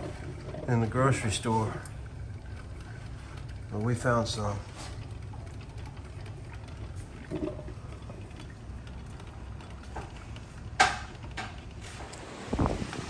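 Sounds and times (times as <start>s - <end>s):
coffee maker humming: 0.0s - 13.0s
faint water sounds: 0.0s - 13.0s.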